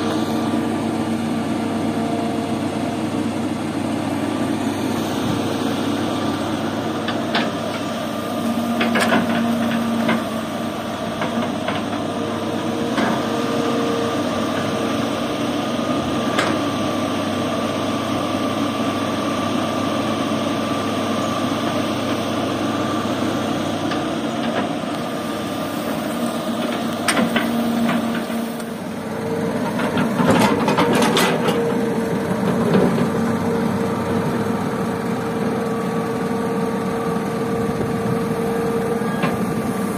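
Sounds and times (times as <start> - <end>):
dump truck idling: 0.0 - 39.9
excavator diesel engine running: 0.0 - 39.9.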